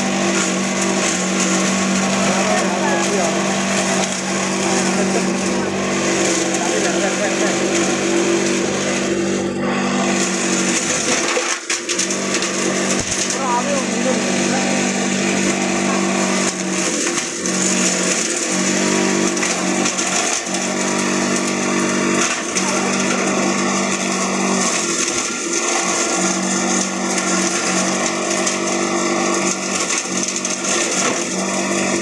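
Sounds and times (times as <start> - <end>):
machine hum: 0.0 - 32.0.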